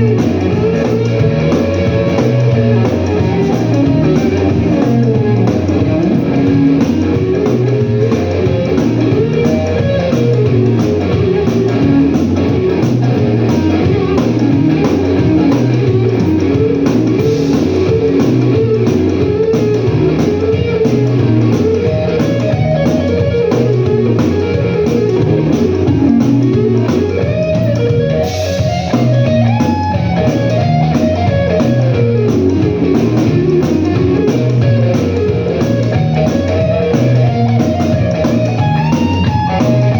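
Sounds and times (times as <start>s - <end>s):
electric guitar lead line: 0.0s - 39.9s
repeating bass line: 0.0s - 39.9s.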